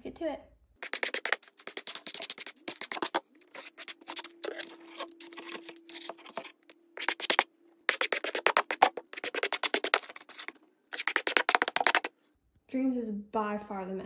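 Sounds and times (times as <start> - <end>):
plastic fork scraping paper: 0.8 - 12.1.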